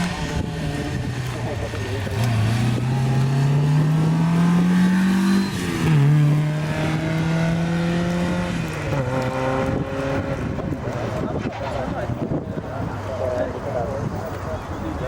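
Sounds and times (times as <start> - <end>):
car engine accelerating hard: 0.0 - 13.6.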